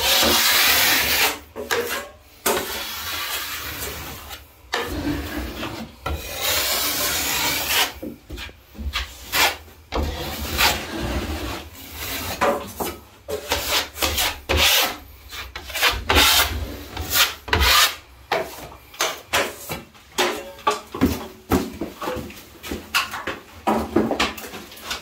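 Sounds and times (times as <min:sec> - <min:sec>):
drywall blade scraping ceiling: 0:00.0 - 0:21.0.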